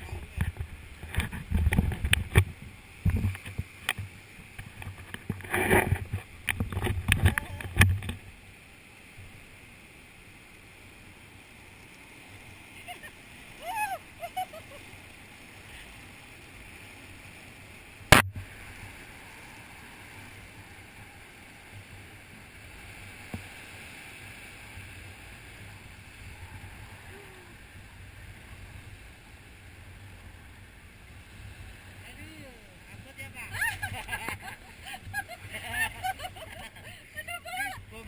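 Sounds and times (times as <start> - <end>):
sea surf: 0.0 - 38.0.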